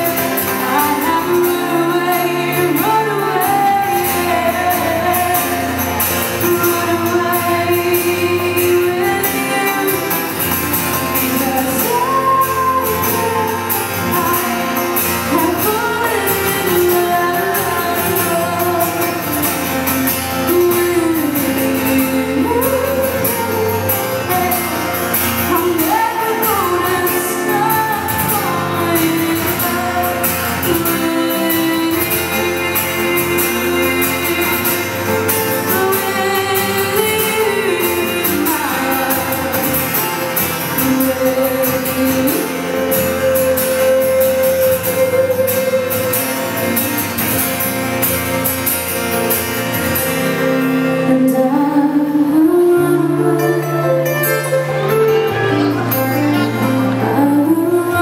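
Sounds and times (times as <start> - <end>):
person singing: 0.0 - 47.7, 50.3 - 58.0
acoustic guitars playing: 0.0 - 58.0.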